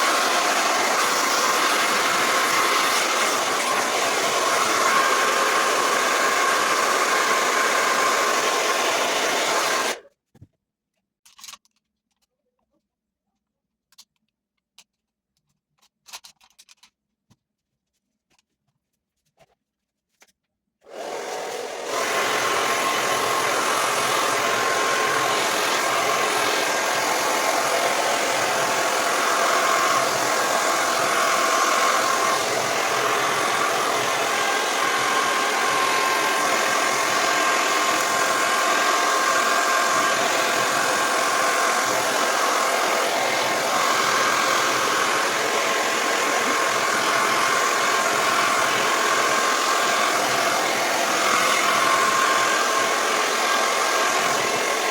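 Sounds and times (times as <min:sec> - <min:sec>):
hair dryer running: 0:00.0 - 0:10.0, 0:20.9 - 0:54.9.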